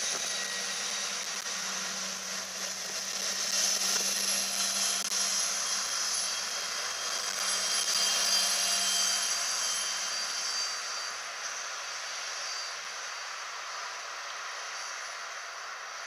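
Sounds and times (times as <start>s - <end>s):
diesel train pulling away: 0.0s - 16.0s
high whine: 0.0s - 16.0s.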